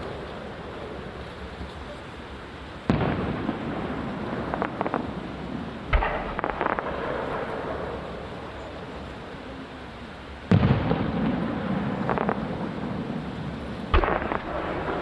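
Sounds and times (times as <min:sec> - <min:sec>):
fireworks booming: 0:00.0 - 0:09.3, 0:10.4 - 0:15.0
fireworks crackling pops: 0:00.0 - 0:15.0.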